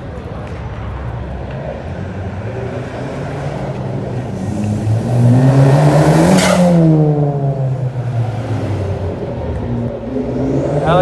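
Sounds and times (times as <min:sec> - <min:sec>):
car engine accelerating past: 0:02.0 - 0:11.0.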